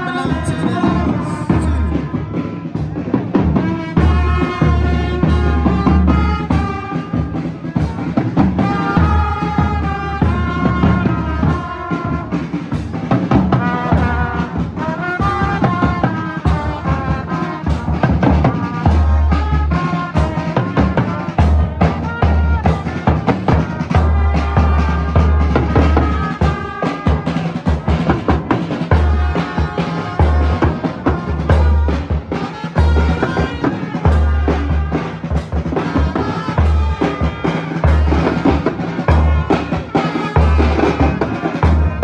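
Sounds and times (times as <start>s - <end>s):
brass horn lines: 0.0s - 12.5s, 13.5s - 42.0s
heavy bass drum beat: 0.0s - 42.0s.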